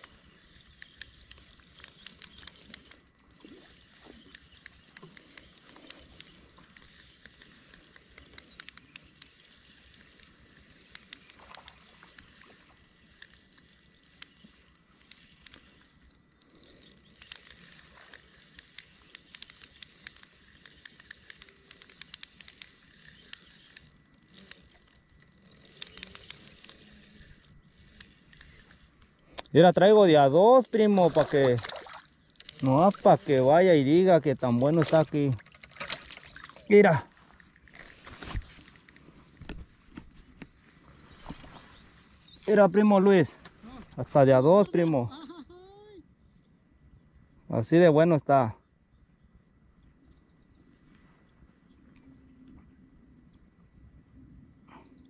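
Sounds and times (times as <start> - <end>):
fishing reel clicking: 0.0 - 46.0.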